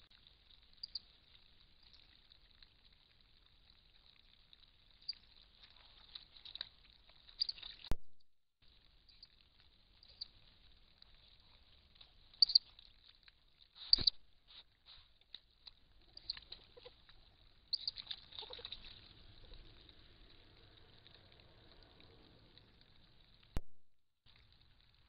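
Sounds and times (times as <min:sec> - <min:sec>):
faint steady hiss: 0:00.0 - 0:08.0, 0:08.6 - 0:23.6, 0:24.3 - 0:25.0.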